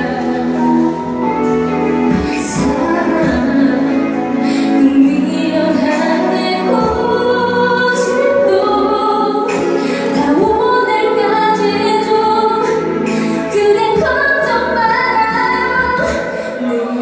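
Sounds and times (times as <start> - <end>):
musical accompaniment: 0.0 - 17.0
woman singing into a microphone: 0.0 - 17.0.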